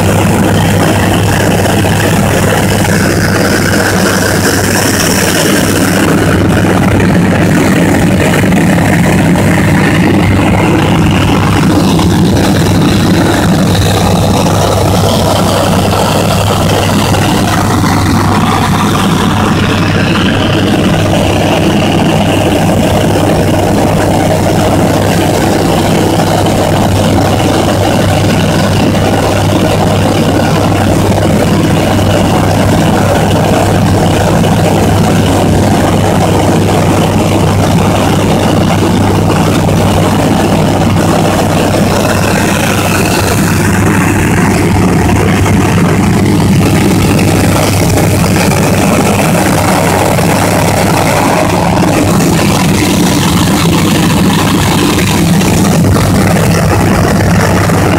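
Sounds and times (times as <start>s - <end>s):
aircraft engine drone: 0.0s - 57.9s
rushing airflow: 0.0s - 57.9s.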